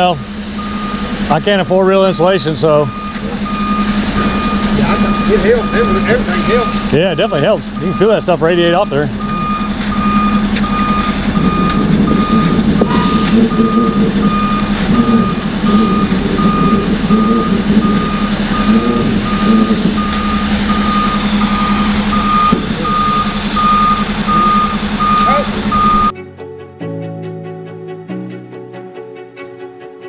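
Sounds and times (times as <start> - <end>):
diesel engine running: 0.0 - 26.1
reversing alarm beeping: 0.0 - 26.1.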